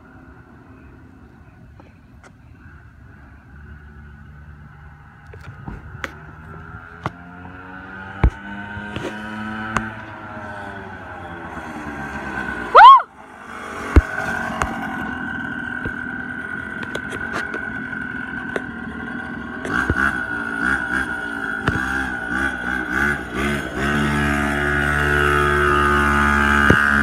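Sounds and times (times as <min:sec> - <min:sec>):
small engine revving: 0:03.7 - 0:27.0.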